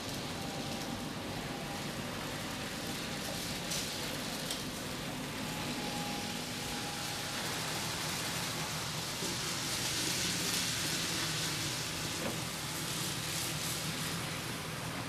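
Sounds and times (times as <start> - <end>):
model train wheels on rails: 0.0 - 15.0.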